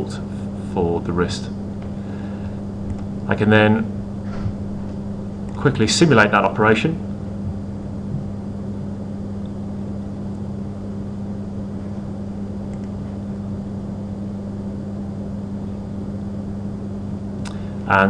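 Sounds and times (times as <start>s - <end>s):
electrical hum with hiss: 0.0s - 18.0s.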